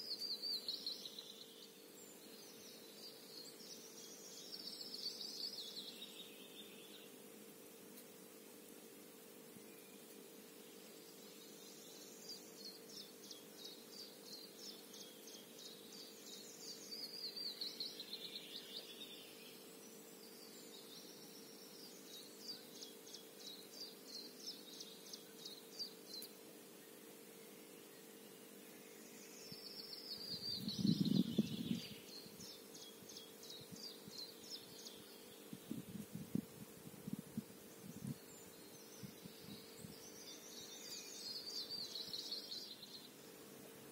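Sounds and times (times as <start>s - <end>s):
faint steady hum: 0.0s - 43.9s
songbirds singing: 0.0s - 43.9s.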